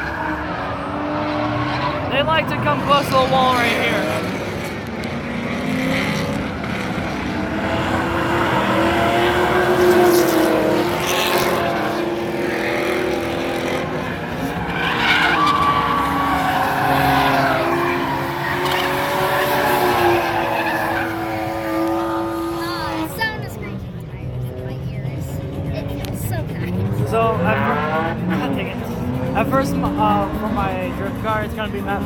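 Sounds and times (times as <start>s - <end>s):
car engines at high revs: 0.0s - 32.0s
tires screeching: 0.0s - 32.0s.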